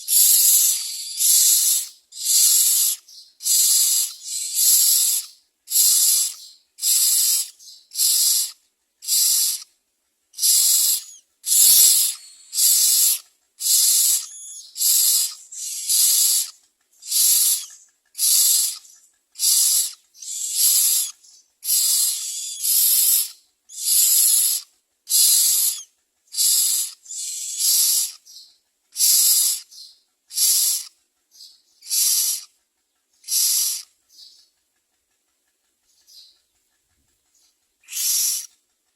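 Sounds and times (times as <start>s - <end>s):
nestlings hissing begging calls: 0.0s - 9.7s, 10.4s - 28.3s, 29.0s - 30.9s, 31.8s - 32.5s, 33.2s - 33.9s, 37.8s - 38.5s.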